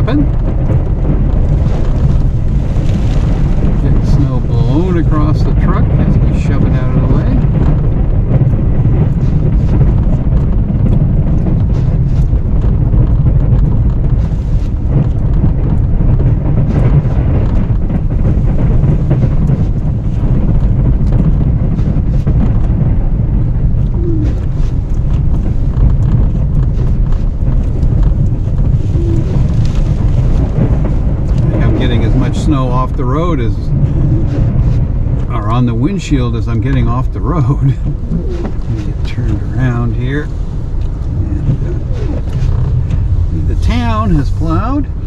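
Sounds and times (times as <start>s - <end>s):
plow truck pushing snow: 0.0s - 45.0s
wind noise: 0.0s - 45.0s.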